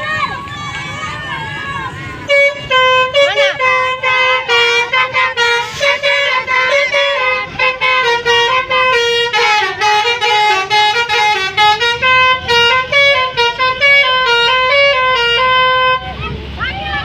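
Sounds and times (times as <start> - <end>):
multi-tone bus horn playing tune: 1.9 - 16.3.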